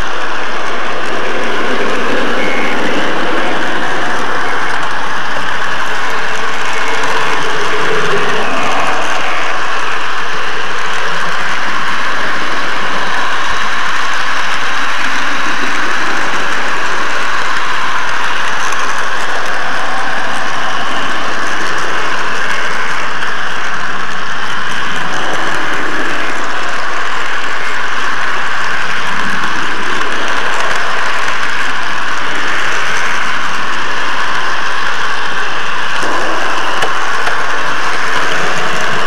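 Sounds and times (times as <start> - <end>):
model train whirring rattle: 0.0 - 39.0.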